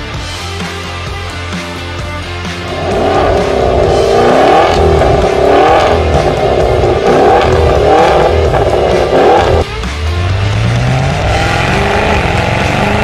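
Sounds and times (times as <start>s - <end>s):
car engine revving: 2.6s - 13.0s.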